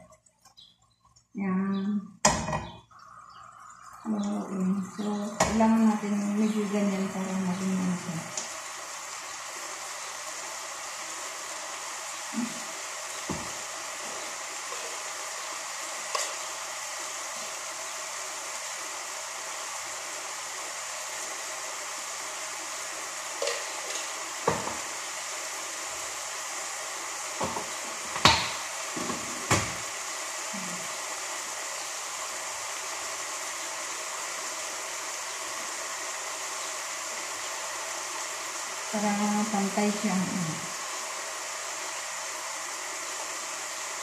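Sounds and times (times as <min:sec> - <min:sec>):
food sizzling in a pan: 0:02.2 - 0:44.0.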